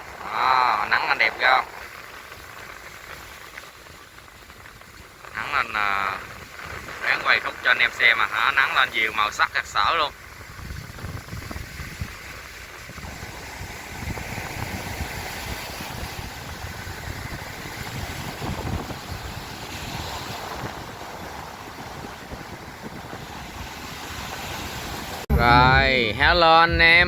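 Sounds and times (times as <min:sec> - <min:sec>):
wind buffeting microphone: 0:00.0 - 0:26.3
wind and surf rushing: 0:00.0 - 0:27.0.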